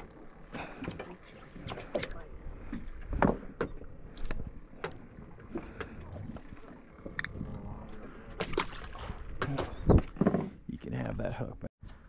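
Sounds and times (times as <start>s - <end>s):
boat engine low rumble: 0.0s - 11.7s.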